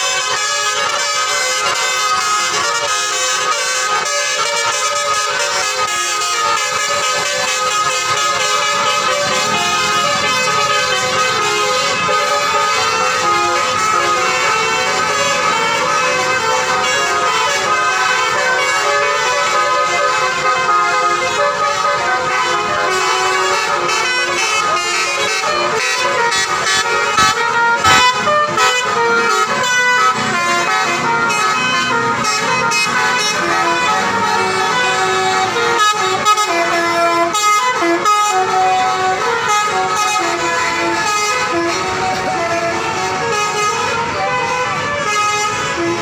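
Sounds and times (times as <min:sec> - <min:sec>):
low rumble of passing buses: 0:00.0 - 0:46.0
musical air horns playing tunes: 0:00.0 - 0:46.0.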